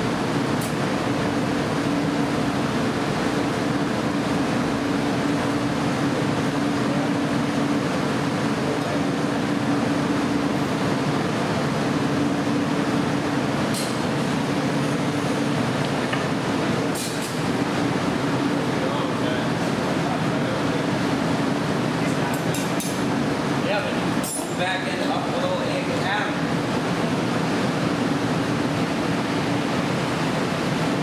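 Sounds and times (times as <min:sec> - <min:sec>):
furnace burners roaring: 0:00.0 - 0:31.0.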